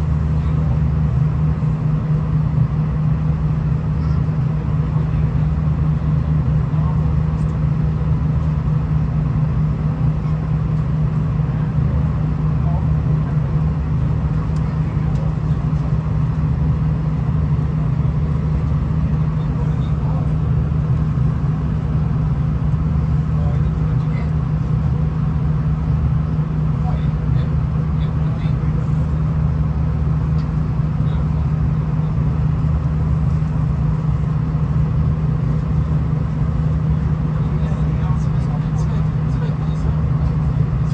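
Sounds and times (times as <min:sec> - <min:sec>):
constant low hum: 0:00.0 - 0:40.9
diesel railcar engine drone: 0:00.0 - 0:40.9.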